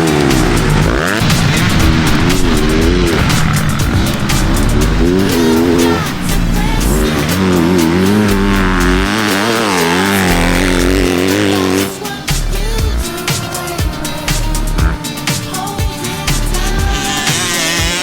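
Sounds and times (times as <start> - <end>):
background music with bass line: 0.0 - 18.0
dirt bike engines revving: 0.0 - 18.0.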